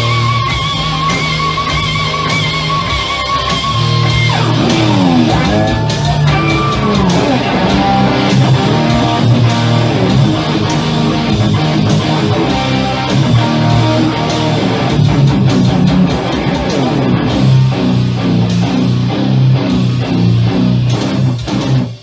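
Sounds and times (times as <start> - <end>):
electric guitar through amplifier: 0.0 - 22.0.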